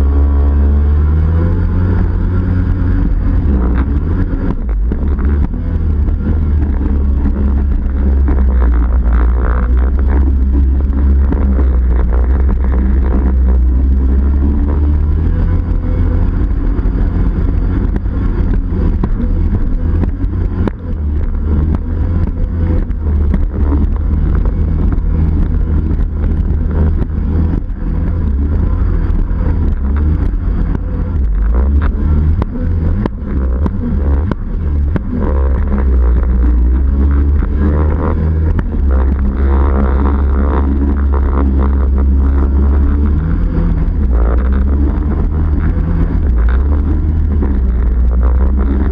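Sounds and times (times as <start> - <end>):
personal watercraft engine running: 0.0 - 48.9.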